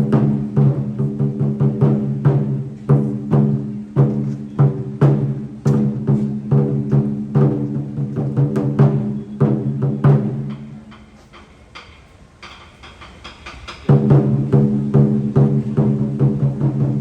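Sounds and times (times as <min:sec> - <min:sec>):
taiko drums booming: 0:00.0 - 0:11.2, 0:11.8 - 0:17.0.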